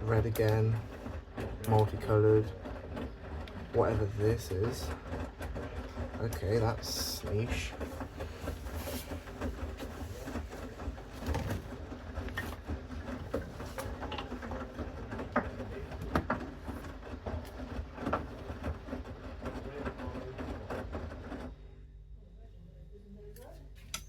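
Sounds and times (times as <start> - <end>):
laundry tumbling knocks: 0.0 - 19.6
washing machine motor hum: 0.0 - 24.0.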